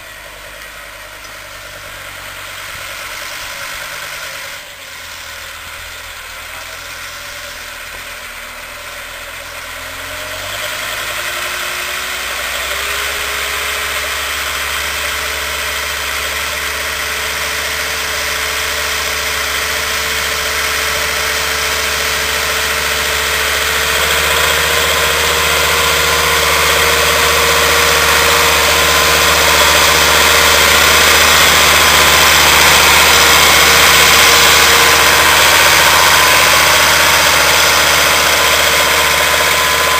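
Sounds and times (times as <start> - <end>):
steady whine: 0.0 - 39.9
tractor diesel engine under load: 0.0 - 39.9.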